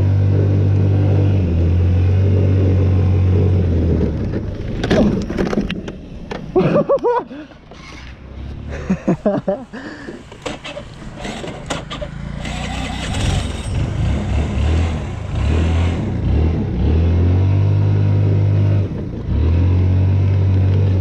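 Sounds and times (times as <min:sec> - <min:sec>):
car engine droning at high revs: 0:00.0 - 0:04.6, 0:07.8 - 0:21.0.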